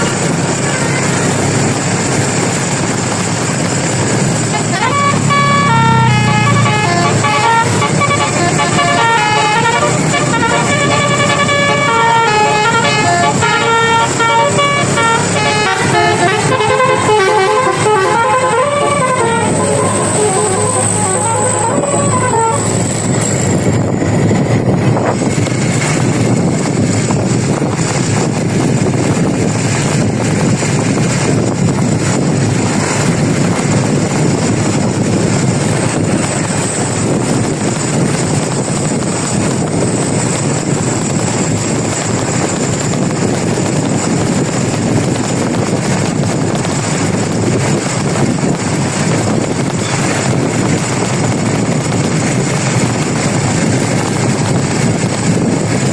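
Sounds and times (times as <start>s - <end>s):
moving bus engine and tyres: 0.0s - 55.9s.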